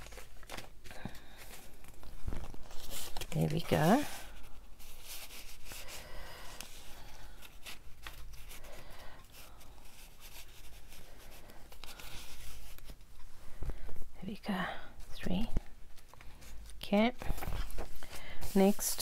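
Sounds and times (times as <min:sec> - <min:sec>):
paper and card rustling: 0:00.0 - 0:14.0, 0:15.0 - 0:19.0.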